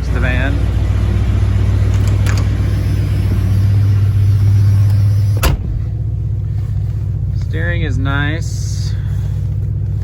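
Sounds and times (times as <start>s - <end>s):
engine low rumble: 0.0s - 10.0s.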